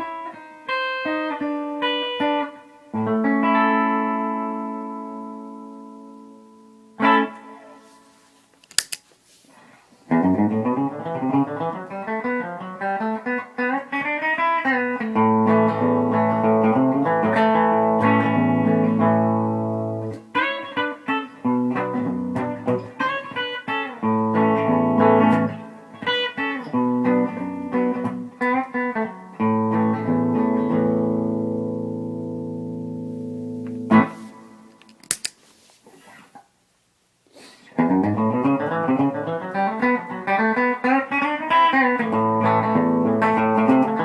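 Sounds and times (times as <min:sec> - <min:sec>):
electric guitar playing: 0:00.0 - 0:08.0, 0:10.1 - 0:35.0, 0:37.8 - 0:44.0.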